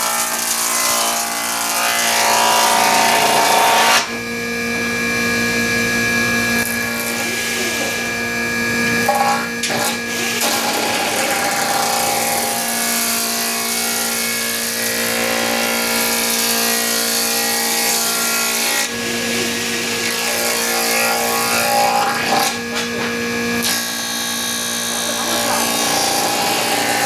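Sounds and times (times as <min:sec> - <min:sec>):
electric wood planer shaving timber: 0:00.0 - 0:27.0.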